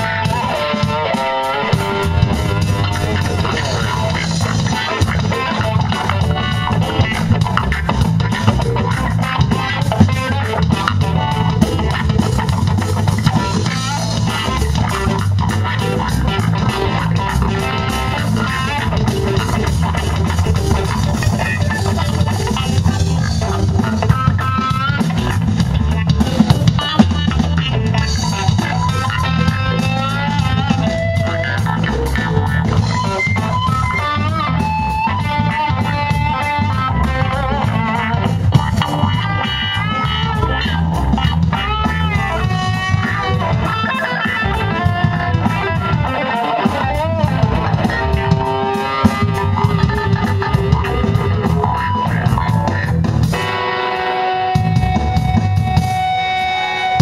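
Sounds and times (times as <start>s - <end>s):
drum kit: 0.0s - 57.0s
electric bass: 0.0s - 57.0s
guitar lead: 0.0s - 57.0s.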